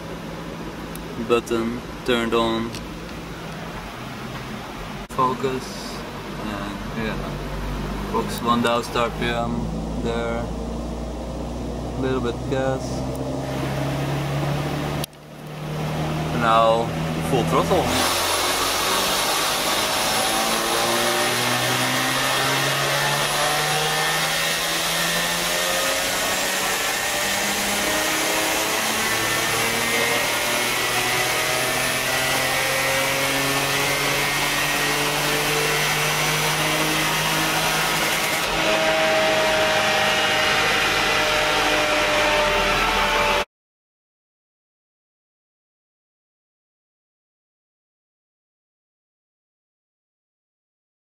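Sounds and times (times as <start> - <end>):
car engine revving at full throttle: 0.0 - 43.5.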